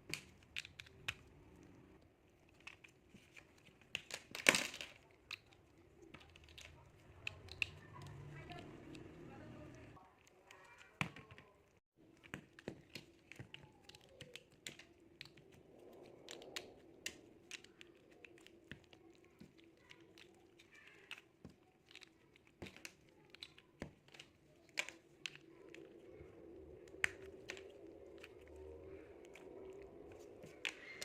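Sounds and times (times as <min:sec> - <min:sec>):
plastic bricks clicking: 0:00.0 - 0:01.8, 0:02.4 - 0:31.0.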